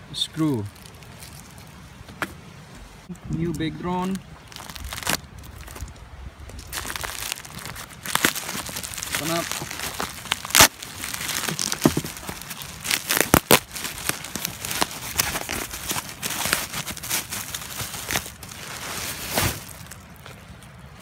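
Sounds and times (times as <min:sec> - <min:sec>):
plastic packaging crinkling: 0:00.7 - 0:01.7, 0:04.4 - 0:20.6.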